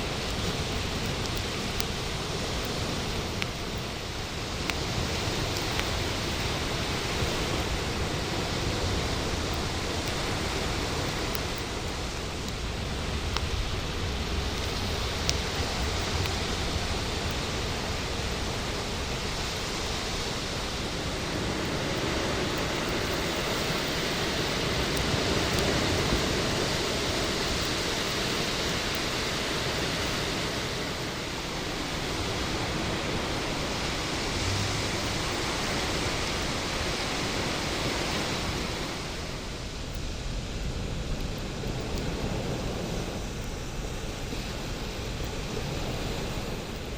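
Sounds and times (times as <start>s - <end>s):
bonfire flames rushing: 0.0s - 46.9s.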